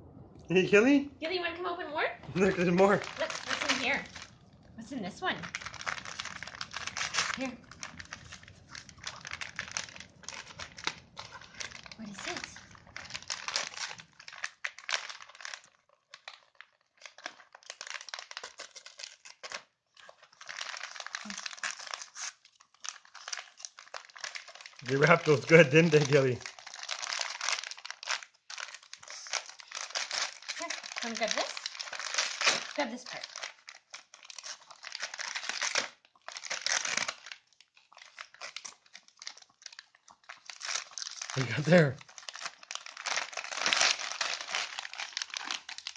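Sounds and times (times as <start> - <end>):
wrapping paper crinkling and tearing: 2.2 - 45.9.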